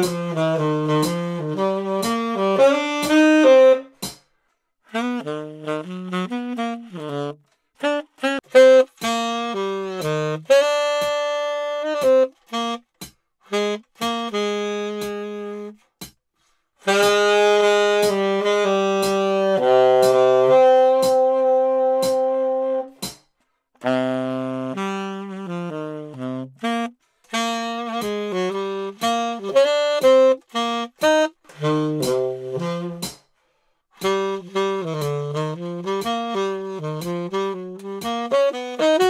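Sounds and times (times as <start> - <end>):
solo tenor saxophone: 0.0 - 4.1, 4.9 - 15.9, 16.8 - 23.1, 23.8 - 33.2, 34.0 - 39.0.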